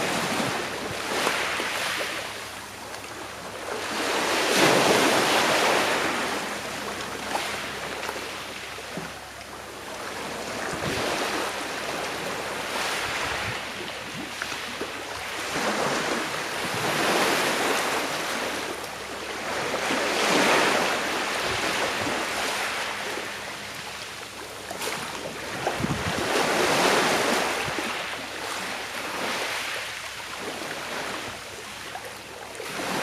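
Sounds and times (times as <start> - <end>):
sea waves washing on shore: 0.0 - 33.0.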